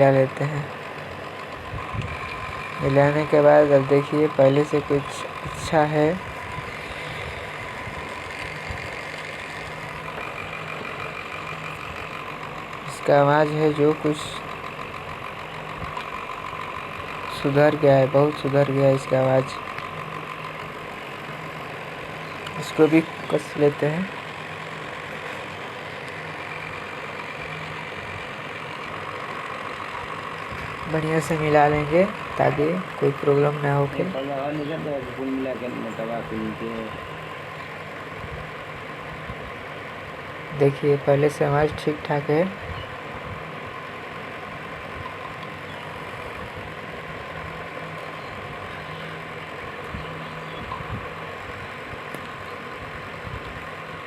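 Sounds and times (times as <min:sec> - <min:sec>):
electric fan humming: 0:00.0 - 0:54.0.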